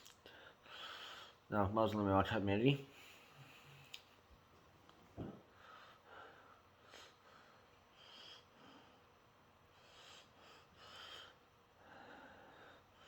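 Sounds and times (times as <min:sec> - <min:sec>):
faint breaths: 0:00.2 - 0:01.5, 0:02.8 - 0:04.2, 0:05.2 - 0:13.0.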